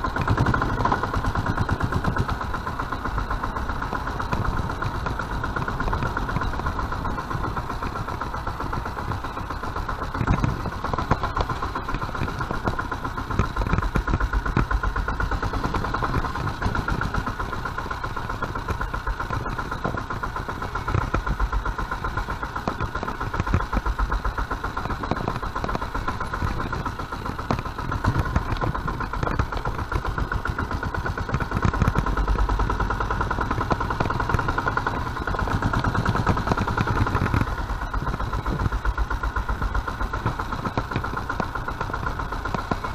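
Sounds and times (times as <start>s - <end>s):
motorcycle diesel engine chugging: 0.0s - 42.9s.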